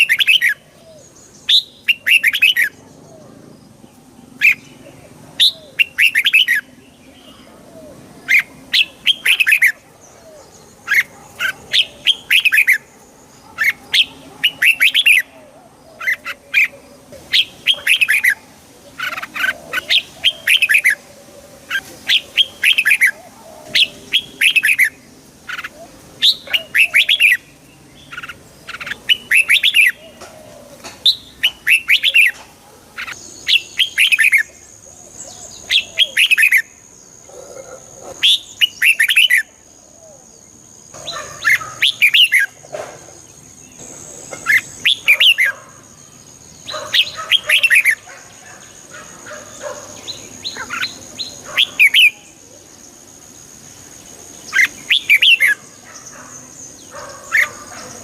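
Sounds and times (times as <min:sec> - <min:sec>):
bulbuls singing chirpy phrases: 0:00.0 - 0:58.0.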